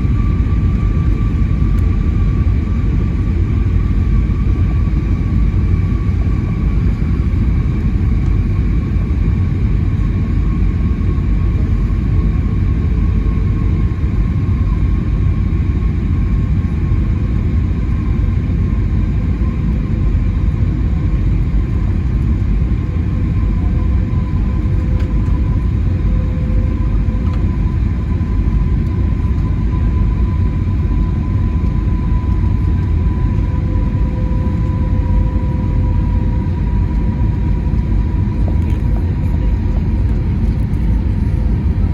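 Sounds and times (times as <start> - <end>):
airplane engine and airflow rumble: 0.0 - 41.9
faint engine whine: 0.0 - 41.9.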